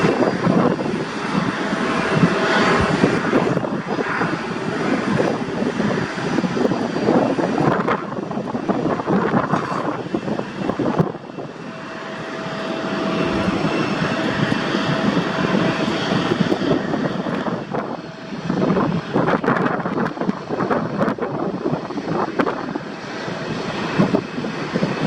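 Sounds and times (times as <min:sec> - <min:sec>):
airliner engines passing: 0:00.0 - 0:25.0.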